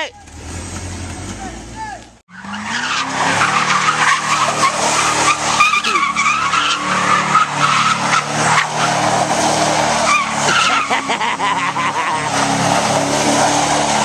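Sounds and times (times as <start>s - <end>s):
tyres squealing: 0.0s - 14.0s.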